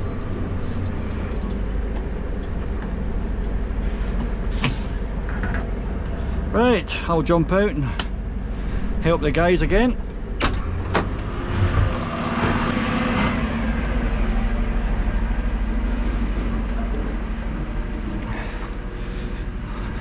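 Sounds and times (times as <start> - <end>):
truck diesel engine idling: 0.0 - 20.0.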